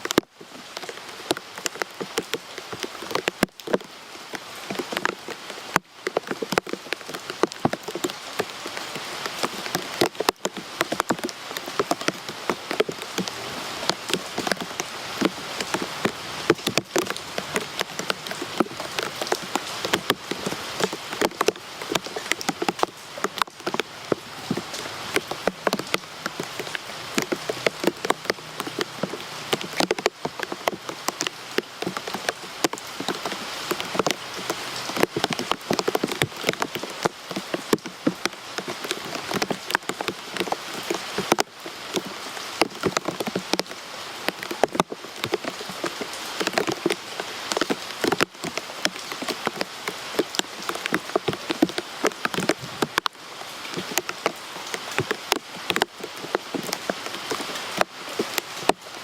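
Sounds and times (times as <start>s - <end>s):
heavy rain hissing: 0.0s - 59.0s
raindrops clicking close by: 0.0s - 59.0s.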